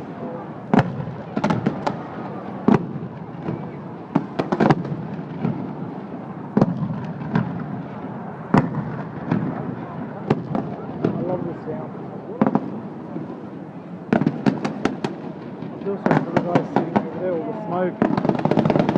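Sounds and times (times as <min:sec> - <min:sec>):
fireworks bursting: 0:00.0 - 0:18.9
outdoor crowd hum: 0:00.0 - 0:18.9.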